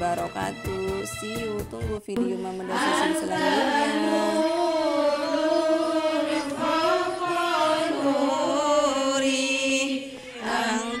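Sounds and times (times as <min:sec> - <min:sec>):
women chanting in unison: 0:02.2 - 0:11.0.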